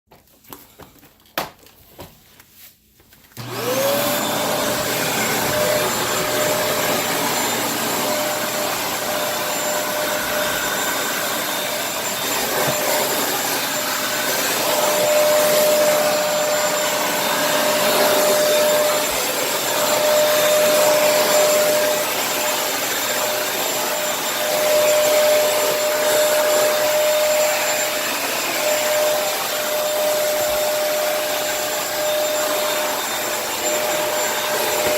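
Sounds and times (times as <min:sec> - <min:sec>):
vacuum cleaner running: 0:03.4 - 0:34.9.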